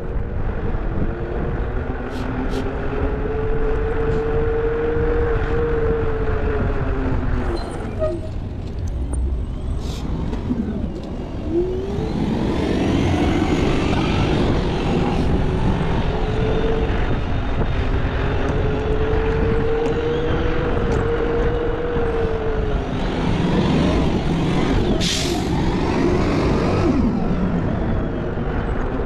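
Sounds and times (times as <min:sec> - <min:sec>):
engine drone rising and falling: 0:00.0 - 0:29.0
motor vehicle engine rumble: 0:00.0 - 0:29.0.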